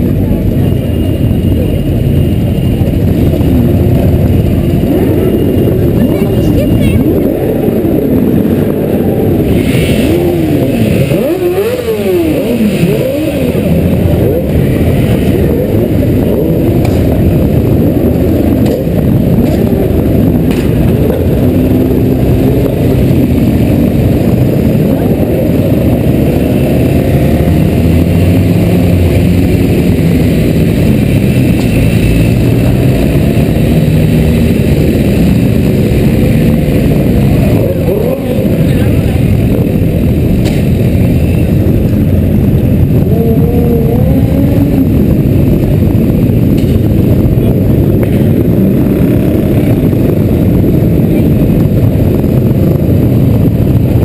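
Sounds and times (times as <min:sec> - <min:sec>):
engine revving: 0:00.0 - 0:54.0
motorcycle engines running: 0:00.0 - 0:54.0.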